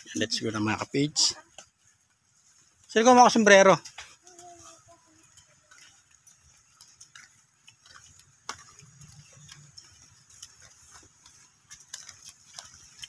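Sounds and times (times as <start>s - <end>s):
footsteps in sandals on path: 0.0s - 13.0s.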